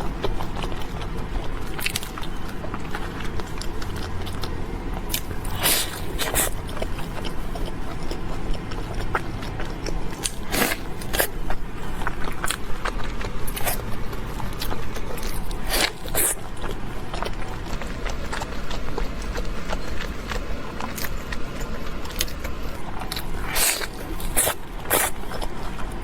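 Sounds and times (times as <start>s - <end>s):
crunchy chewing: 0.0s - 26.0s.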